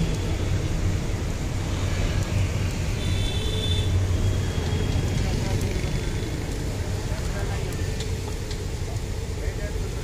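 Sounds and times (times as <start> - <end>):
low street rumble: 0.0 - 10.0.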